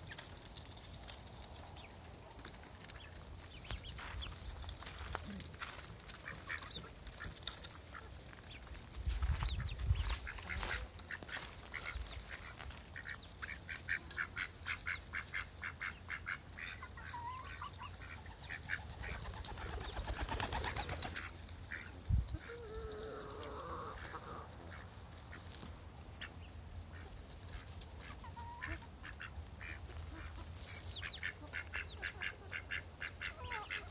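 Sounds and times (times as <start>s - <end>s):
chickens calling: 0.0s - 33.9s
ducks quacking: 4.8s - 8.2s, 9.2s - 33.9s.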